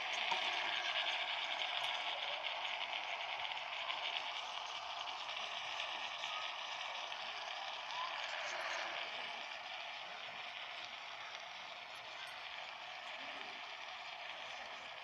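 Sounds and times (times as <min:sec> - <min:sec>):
food sizzling in a kettle: 0:00.0 - 0:15.0.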